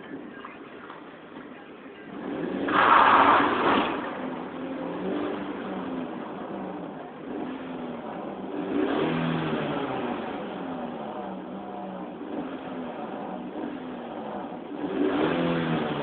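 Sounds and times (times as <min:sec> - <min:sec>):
car engine revving in a tunnel: 0:02.0 - 0:16.0.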